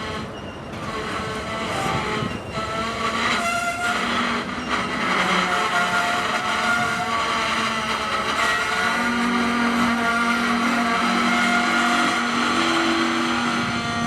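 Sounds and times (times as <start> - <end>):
high metallic squeals: 0.0 - 14.0
train wheels roaring on rail: 0.0 - 14.0.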